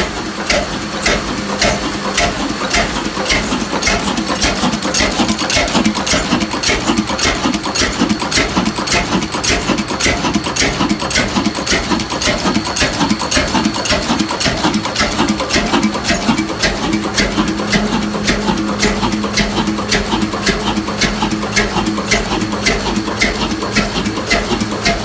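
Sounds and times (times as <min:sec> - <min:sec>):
old engine running slowly: 0:00.0 - 0:25.0
sharp regular engine knock: 0:00.0 - 0:25.0.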